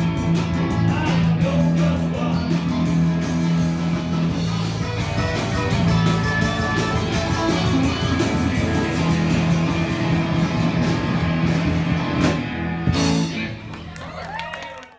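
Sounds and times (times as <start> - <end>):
live rock and roll band: 0.0 - 14.9.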